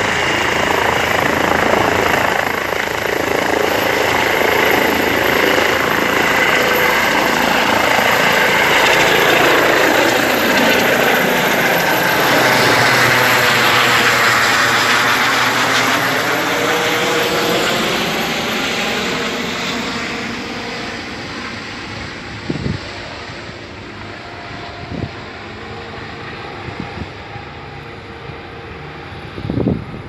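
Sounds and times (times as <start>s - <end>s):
helicopter rotor and turbine: 0.0s - 30.0s.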